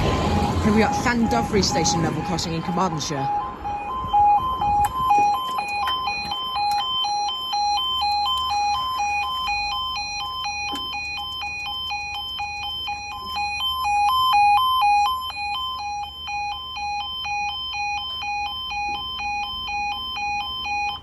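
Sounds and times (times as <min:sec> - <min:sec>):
two-tone electronic warning warble: 0:00.0 - 0:21.0.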